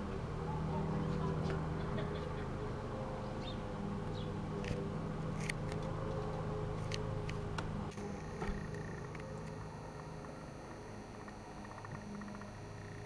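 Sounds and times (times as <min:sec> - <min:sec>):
distant helicopter drone: 0:00.0 - 0:13.0.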